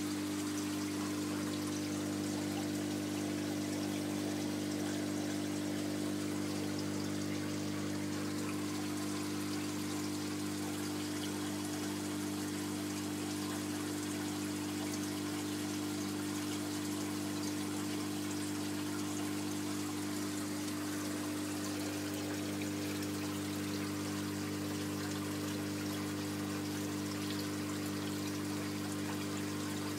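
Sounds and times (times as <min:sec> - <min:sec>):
aquarium filter hum: 0:00.0 - 0:29.9
water pouring and trickling: 0:00.0 - 0:29.9.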